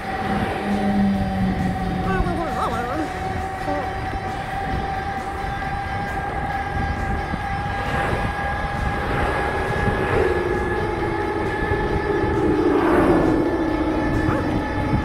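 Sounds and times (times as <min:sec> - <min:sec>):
high whining tones: 0:00.0 - 0:15.0
train low rumble: 0:00.0 - 0:15.0.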